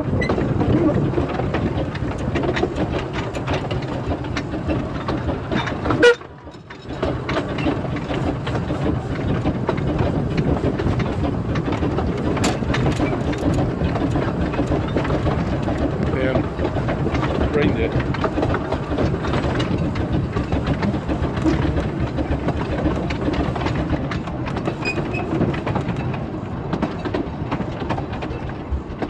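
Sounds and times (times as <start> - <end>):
steam locomotive rumbling: 0.0 - 29.0.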